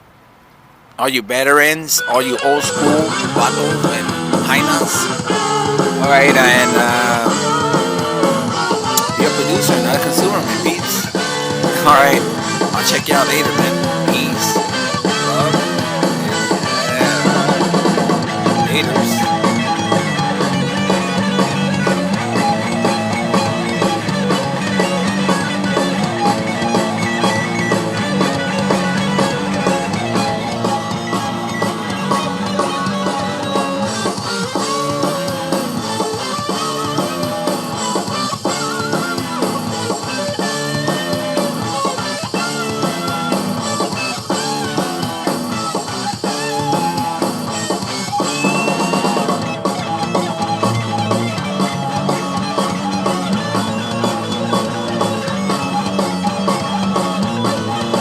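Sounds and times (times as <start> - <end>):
rock music with guitar and drums: 2.5 - 58.0.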